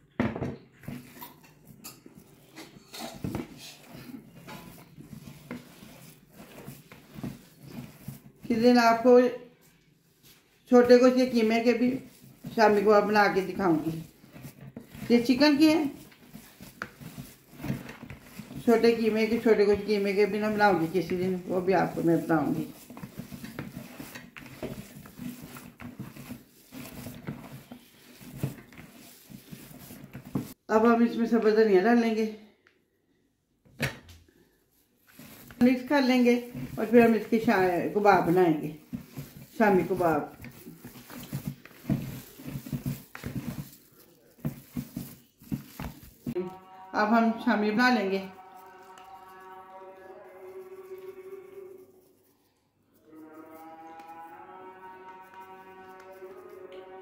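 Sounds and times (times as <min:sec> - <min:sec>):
hand kneading soft mixture: 0:00.0 - 0:32.3, 0:34.3 - 0:57.0.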